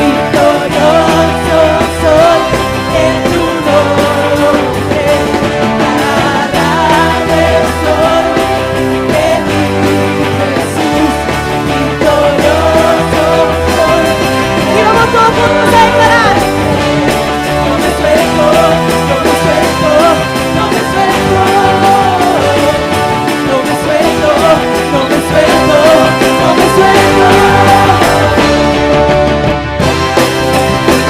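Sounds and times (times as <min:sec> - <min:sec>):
live worship band playing: 0:00.0 - 0:31.0.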